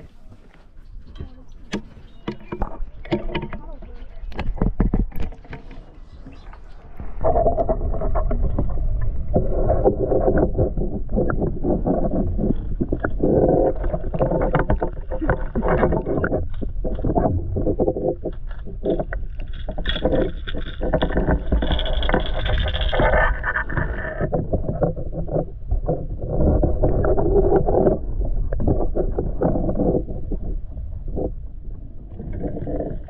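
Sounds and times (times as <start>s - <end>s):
muffled underwater rumble: 0.0s - 33.0s
small underwater knocks and clicks: 0.0s - 33.0s.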